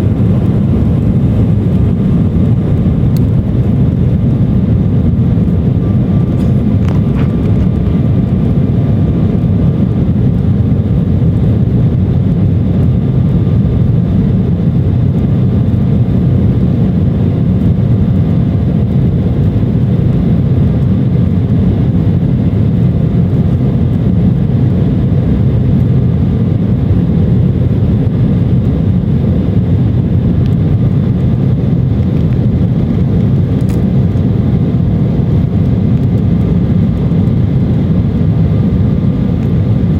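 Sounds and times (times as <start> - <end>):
faint steady whine: 0.0 - 39.9
jet engines roaring in cabin: 0.0 - 39.9.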